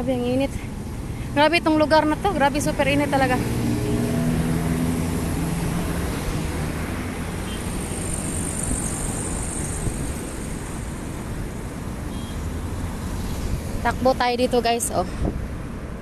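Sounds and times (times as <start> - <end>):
cars driving past: 0.0 - 16.0.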